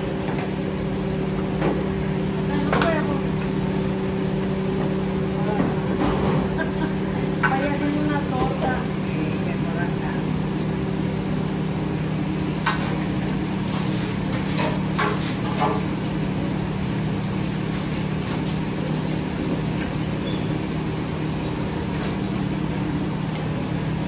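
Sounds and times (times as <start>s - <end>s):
food sizzling in oil: 0.0s - 24.0s
low kitchen hum: 0.0s - 24.0s.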